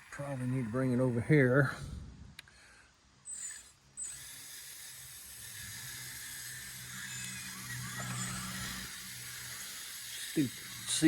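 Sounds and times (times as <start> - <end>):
model excavator motor hum: 0.0 - 1.8, 3.2 - 11.0.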